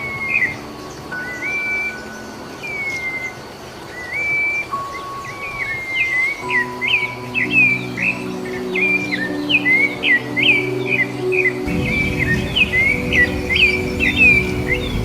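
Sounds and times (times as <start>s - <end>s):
soft background music: 0.0s - 15.0s
songbird whistling: 0.0s - 15.0s.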